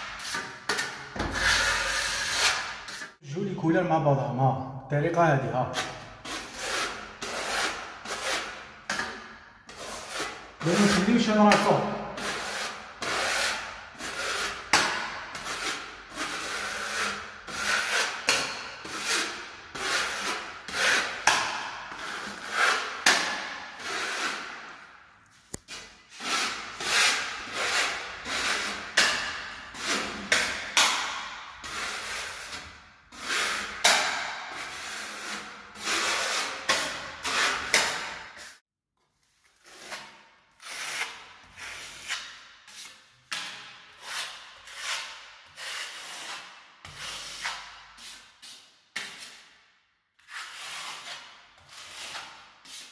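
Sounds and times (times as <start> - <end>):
trowel scraping paint on wall: 0.0 - 3.2, 5.7 - 38.6, 39.2 - 52.9.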